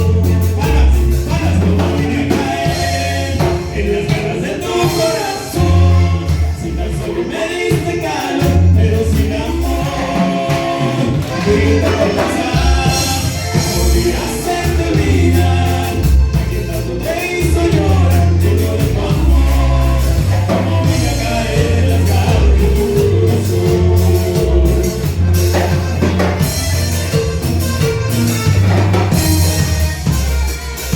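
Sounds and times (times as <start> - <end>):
band music with vocals: 0.0 - 30.9
drums: 0.0 - 30.9
heavy bass line: 0.0 - 30.9.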